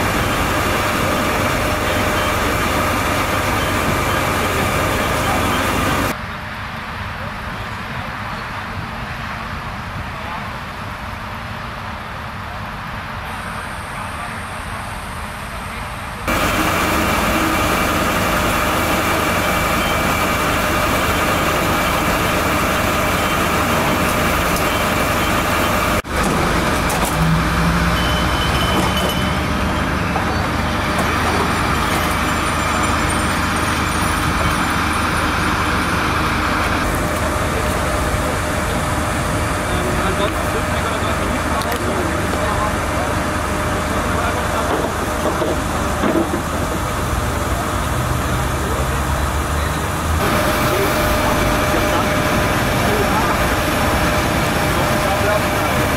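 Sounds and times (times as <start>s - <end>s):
traffic going by: 0.0s - 55.9s.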